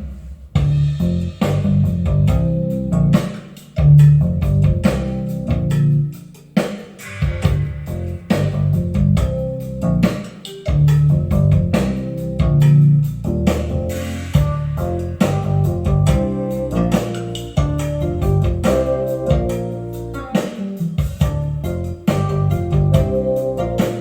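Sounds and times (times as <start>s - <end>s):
band music with bass guitar: 0.6s - 6.2s, 7.0s - 24.0s.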